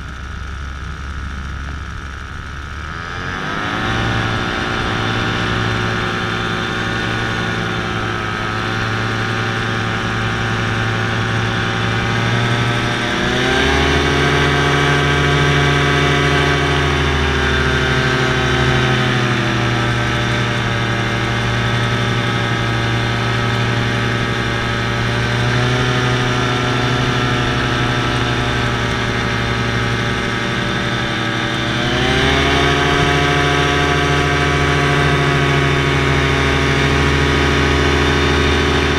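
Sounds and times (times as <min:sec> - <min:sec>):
paramotor engine and propeller: 0:00.0 - 0:38.9.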